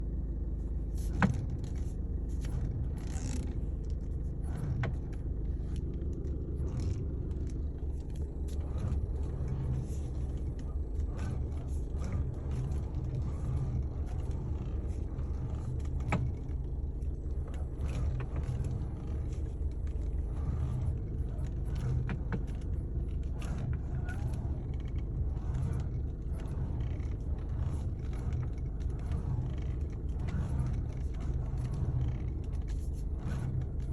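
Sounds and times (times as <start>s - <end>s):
car low rumble: 0.0s - 33.9s.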